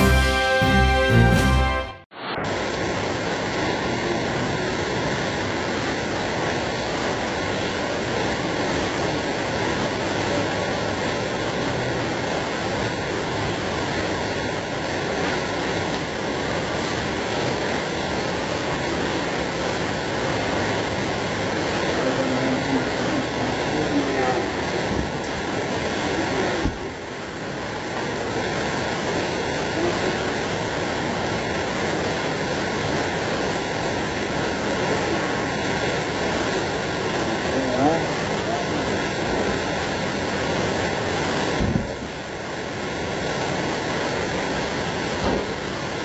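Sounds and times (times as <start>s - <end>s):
torrential rain: 0.0s - 46.0s
floodwater rushing: 2.5s - 46.0s.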